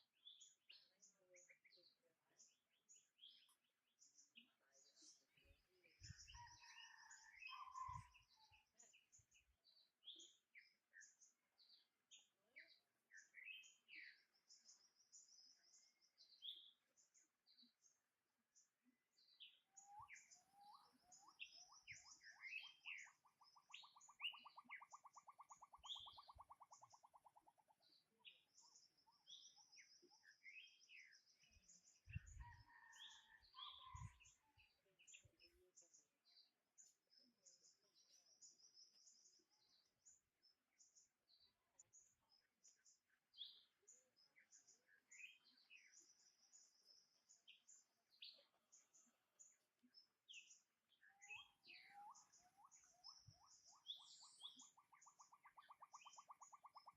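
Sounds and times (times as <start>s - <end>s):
birds chirping and singing: 0.0s - 56.9s.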